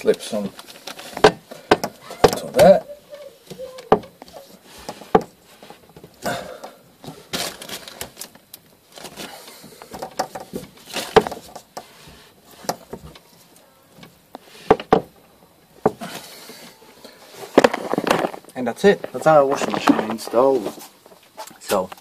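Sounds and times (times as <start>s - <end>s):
hands handling plastic hoses: 0.0s - 22.0s.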